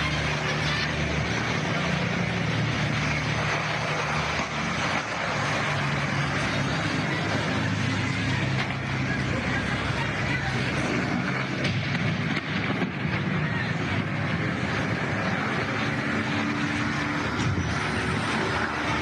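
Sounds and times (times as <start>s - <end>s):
city background noise: 0.0s - 19.0s
helicopter engine and rotor: 0.0s - 19.0s.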